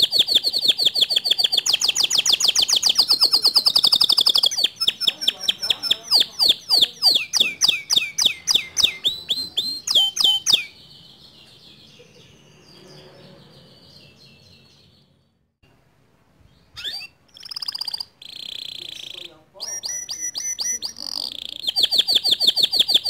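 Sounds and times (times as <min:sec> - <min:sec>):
canary singing: 0:00.0 - 0:15.4, 0:16.5 - 0:23.0.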